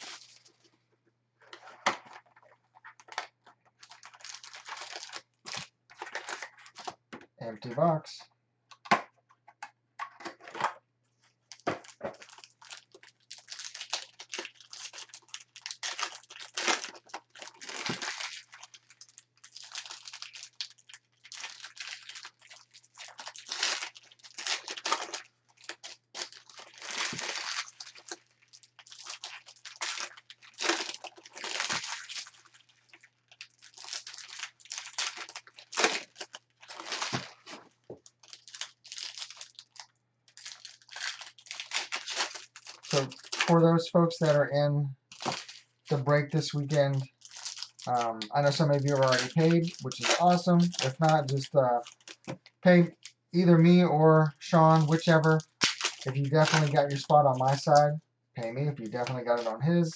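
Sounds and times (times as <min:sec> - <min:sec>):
card pack wrappers tearing and crinkling: 0:00.0 - 0:00.5, 0:01.5 - 0:07.0, 0:11.5 - 0:44.4, 0:45.1 - 0:53.7, 0:54.4 - 0:57.9, 0:58.7 - 0:59.7.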